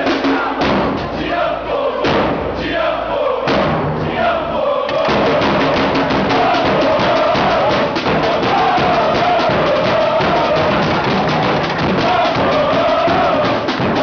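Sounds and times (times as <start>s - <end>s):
crowd chanting: 0.0s - 14.0s
samba drum section: 0.0s - 14.0s.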